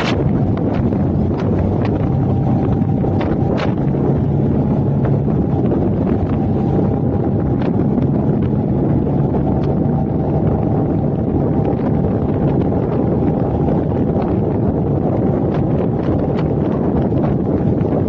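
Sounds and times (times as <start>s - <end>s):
road and engine rumble: 0.0s - 18.0s
wind buffeting microphone: 0.0s - 18.0s.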